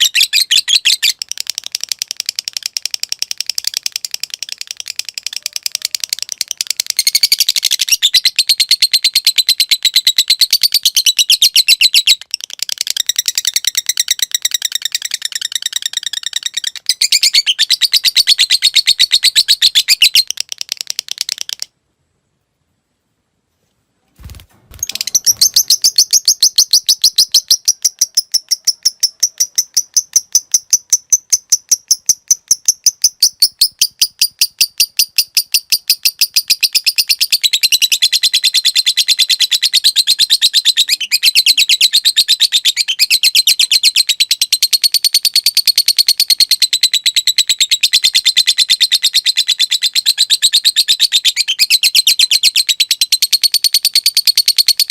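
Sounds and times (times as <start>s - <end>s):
lovebird chattering high chirps: 0.0s - 21.7s, 24.8s - 54.9s.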